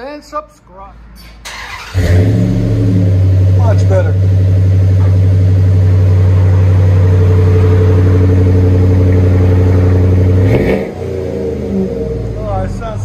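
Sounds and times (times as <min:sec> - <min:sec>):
car engine revving then idling: 0:01.5 - 0:13.0.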